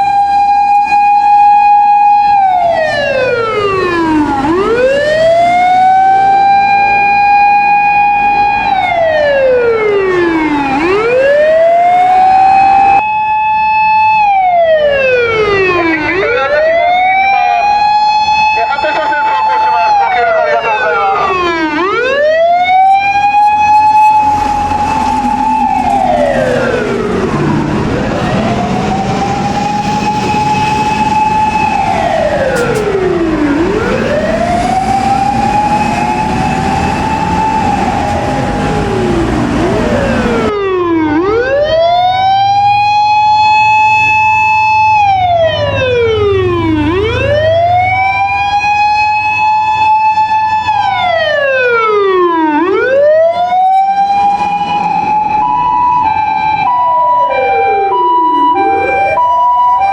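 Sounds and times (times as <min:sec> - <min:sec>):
engine and traffic noise: 0:00.0 - 0:59.9
fire engine sirens wailing: 0:00.0 - 0:59.9.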